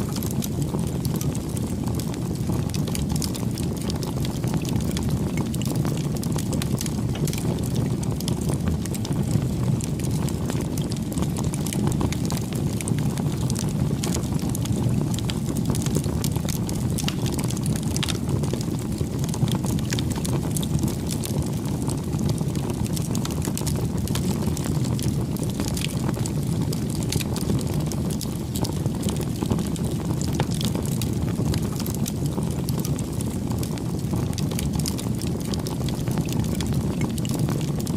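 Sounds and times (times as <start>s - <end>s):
fire crackling and popping: 0.0s - 37.9s
flames rushing: 0.0s - 37.9s.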